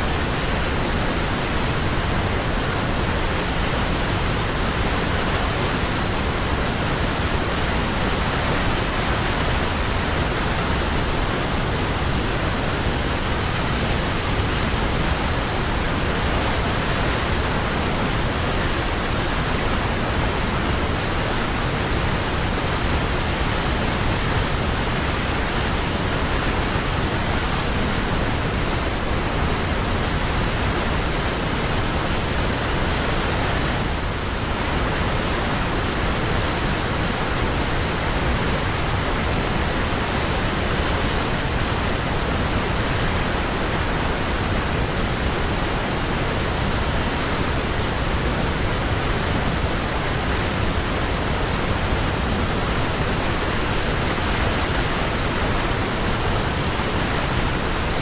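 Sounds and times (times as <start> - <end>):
waterfall: 0.0 - 58.0.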